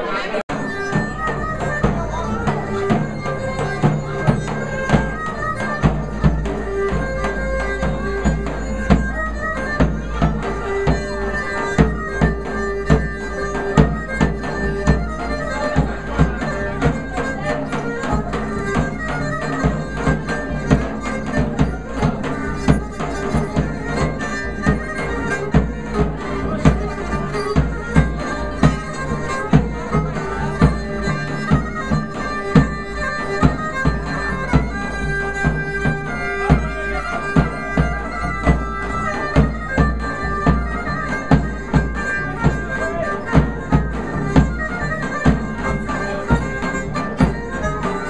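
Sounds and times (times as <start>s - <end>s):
folk dance music: 0.0s - 48.0s.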